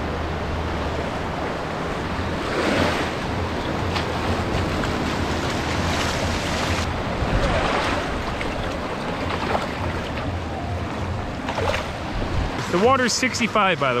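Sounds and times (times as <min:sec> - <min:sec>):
wind rumbling on microphone: 0:00.0 - 0:12.8
surf washing over sand: 0:00.0 - 0:14.0.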